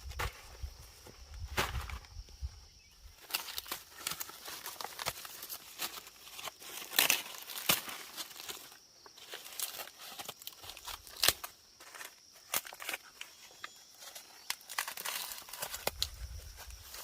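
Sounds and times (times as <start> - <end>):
dry plant material crackling: 3.0 - 17.0.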